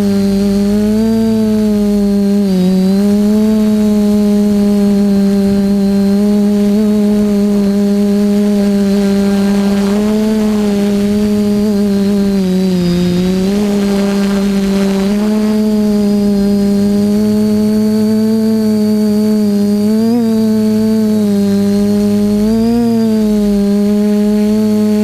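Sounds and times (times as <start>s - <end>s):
quadcopter motors humming: 0.0s - 25.0s.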